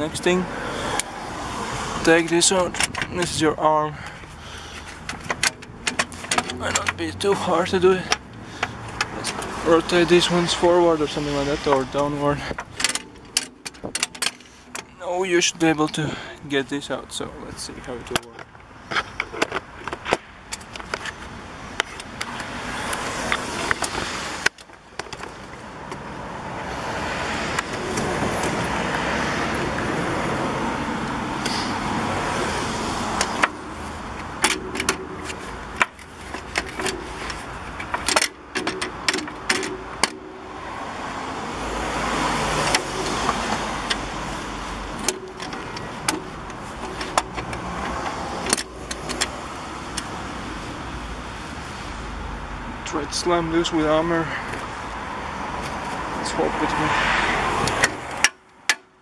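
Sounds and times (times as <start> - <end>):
rushing background noise: 0.0 - 58.9.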